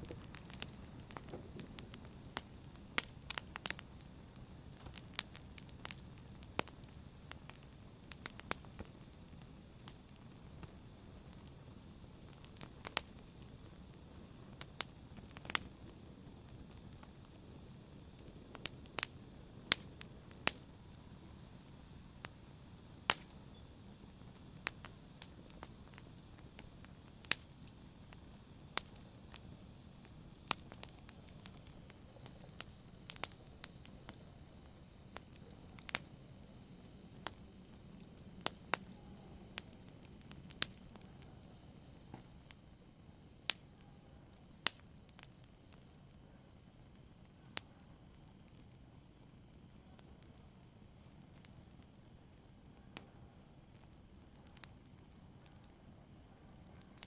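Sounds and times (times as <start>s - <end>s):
faint steady hiss: 0.0s - 57.0s
logs crackling in a fireplace: 0.0s - 57.0s.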